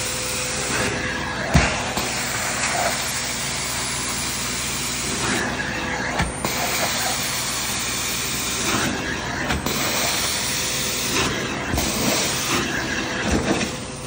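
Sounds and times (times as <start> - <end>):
extractor vacuum drawing: 0.6 - 14.0.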